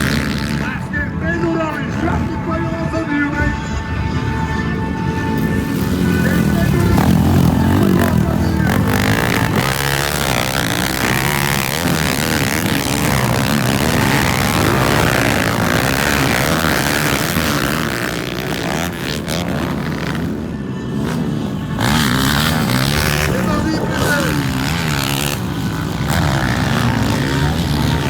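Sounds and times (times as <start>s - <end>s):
motocross bike engines racing: 0.0s - 28.0s.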